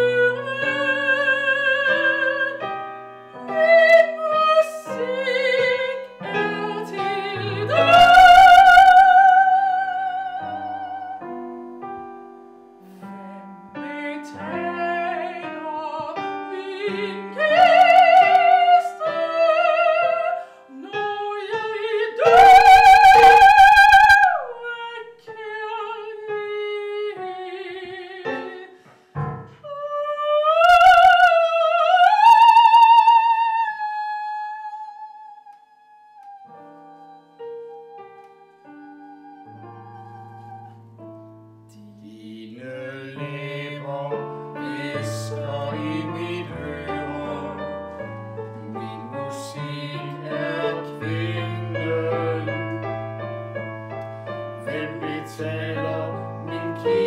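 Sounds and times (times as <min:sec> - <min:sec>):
woman singing opera: 0:00.0 - 0:02.8, 0:03.4 - 0:11.3, 0:12.9 - 0:28.9, 0:29.5 - 0:40.8, 0:41.8 - 0:52.9, 0:54.6 - 0:57.0
piano accompaniment: 0:00.0 - 0:34.4, 0:36.2 - 0:57.0.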